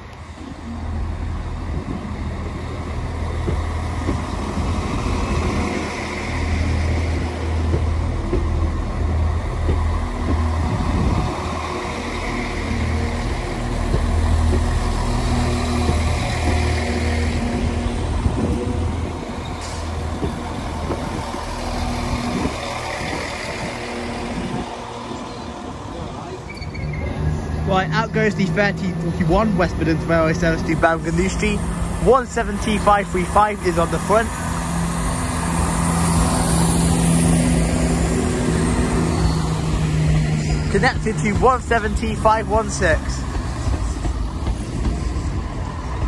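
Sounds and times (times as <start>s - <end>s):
train diesel engines rumbling: 0.0s - 46.0s.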